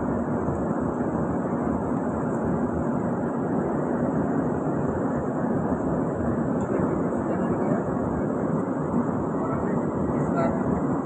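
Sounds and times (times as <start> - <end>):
steady background rumble: 0.0 - 11.0.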